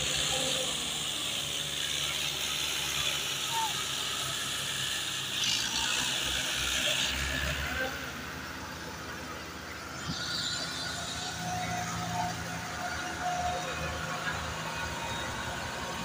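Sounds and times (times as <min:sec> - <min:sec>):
tractor diesel engines under load: 0:00.0 - 0:16.0.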